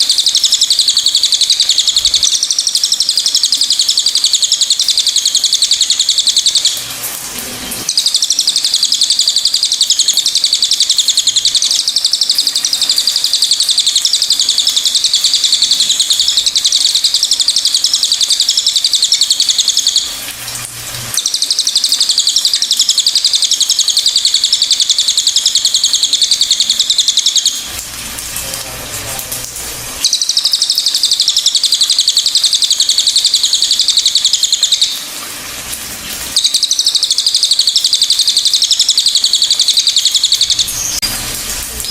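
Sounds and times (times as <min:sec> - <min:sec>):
bird chattering trill: 0:00.0 - 0:06.8, 0:07.9 - 0:20.2, 0:21.1 - 0:27.7, 0:30.0 - 0:35.1, 0:36.4 - 0:41.1.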